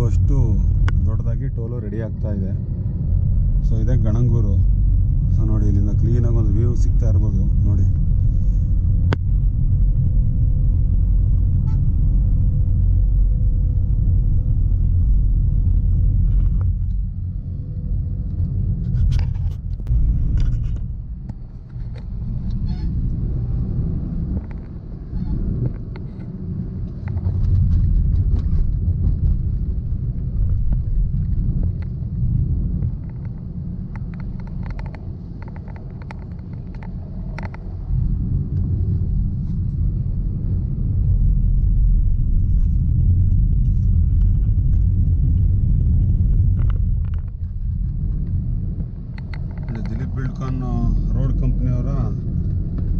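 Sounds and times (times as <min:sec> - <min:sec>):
vehicle rumble with road noise: 0:00.0 - 0:52.9
wind noise: 0:00.0 - 0:52.9.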